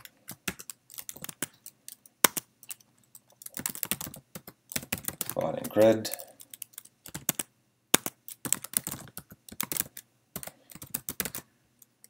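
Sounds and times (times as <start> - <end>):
keyboard typing: 0.0 - 12.0.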